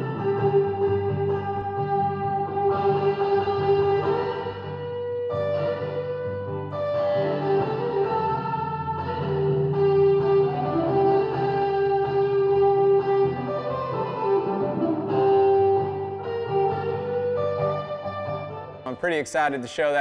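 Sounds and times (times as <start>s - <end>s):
electric guitar lead: 0.0s - 20.0s.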